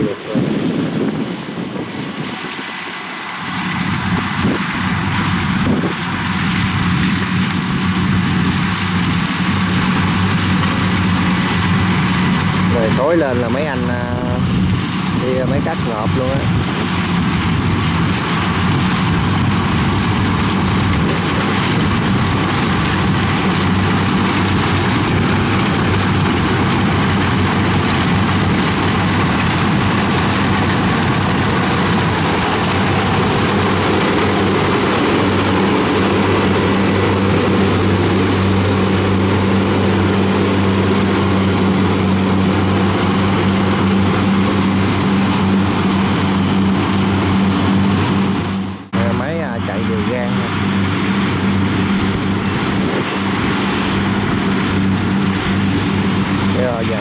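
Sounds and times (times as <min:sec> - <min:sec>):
diesel engine droning: 0:00.0 - 0:57.0
harvester churning: 0:00.0 - 0:57.0.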